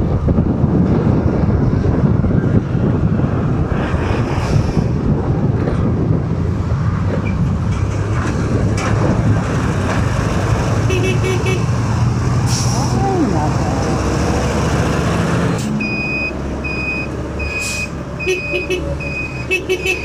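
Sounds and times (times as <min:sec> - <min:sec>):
heavy road traffic rumble: 0:00.0 - 0:20.0
motorcycle engine and road noise: 0:00.0 - 0:20.0.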